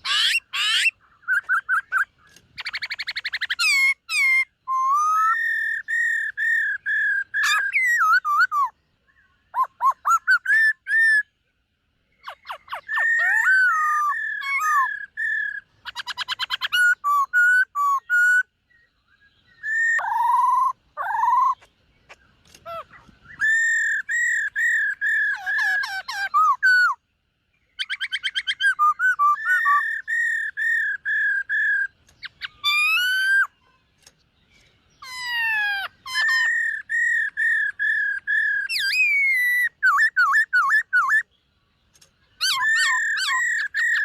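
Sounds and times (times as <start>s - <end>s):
bird singing whistled notes and trills: 0.0s - 44.0s.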